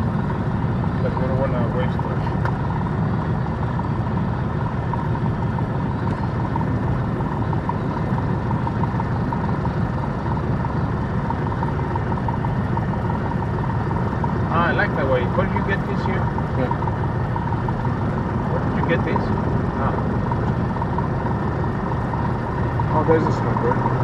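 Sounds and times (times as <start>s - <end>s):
light aircraft engine drone: 0.0s - 24.0s.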